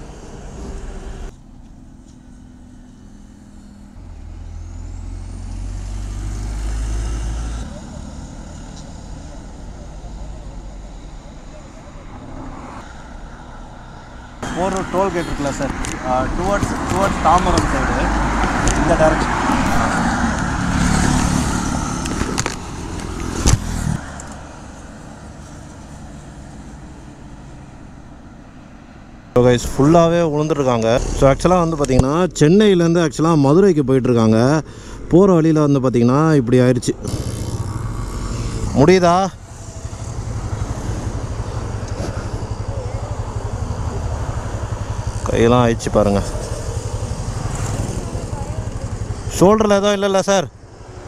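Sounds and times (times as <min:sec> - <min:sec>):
heavy vehicle rumble: 0:00.0 - 0:51.0
highway traffic: 0:00.0 - 0:51.0
low road hum: 0:00.0 - 0:51.0
loud engine passing: 0:02.6 - 0:51.0.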